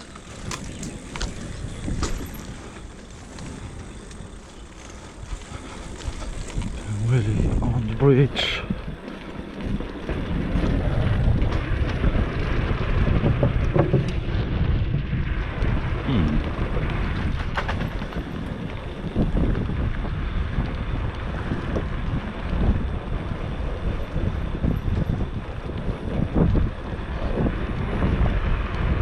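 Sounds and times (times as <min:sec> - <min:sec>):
clicks and knocks from bike: 0:00.0 - 0:07.6, 0:08.4 - 0:29.0
wind buffeting microphone: 0:00.0 - 0:29.0.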